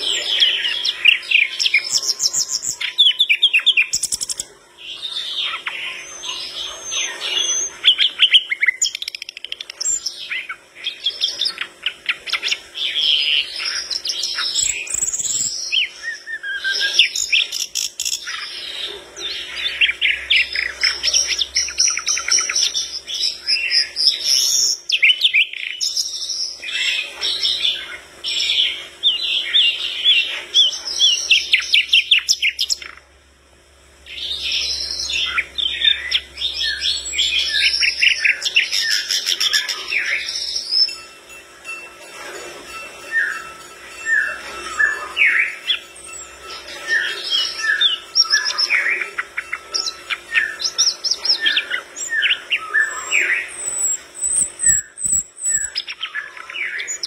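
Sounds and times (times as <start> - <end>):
bird singing chirps and trills: 0.0 - 33.2, 34.0 - 57.0.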